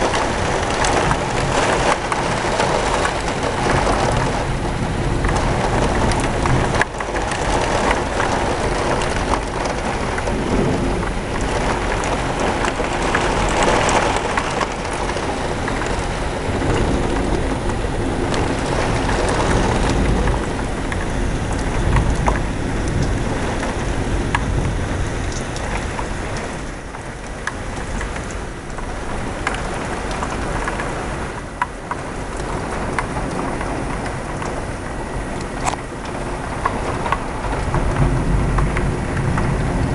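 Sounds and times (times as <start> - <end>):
heavy rain pouring: 0.0 - 39.9
sharp raindrop ticks: 0.0 - 39.9
thunder rumbling: 0.0 - 39.9.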